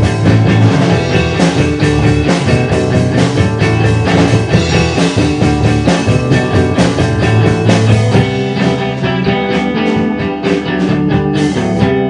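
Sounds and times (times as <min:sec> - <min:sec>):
instrumental rock music: 0:00.0 - 0:12.0.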